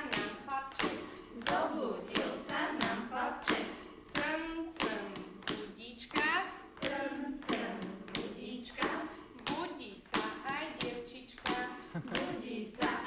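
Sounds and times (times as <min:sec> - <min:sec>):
sharp hand claps: 0:00.0 - 0:13.0
women singing together: 0:00.0 - 0:13.0.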